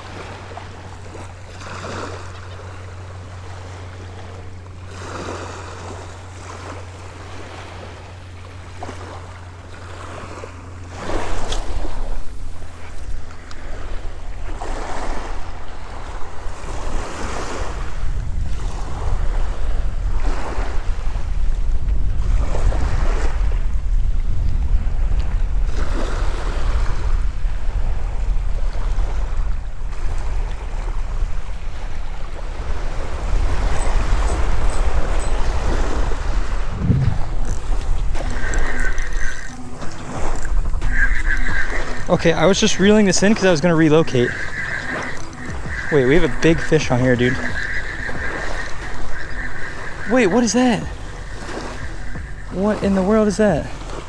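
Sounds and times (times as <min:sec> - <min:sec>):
small waves washing on sand: 0:00.0 - 0:21.6, 0:24.2 - 0:38.8, 0:39.4 - 0:54.0
wind buffeting microphone: 0:00.0 - 0:54.0.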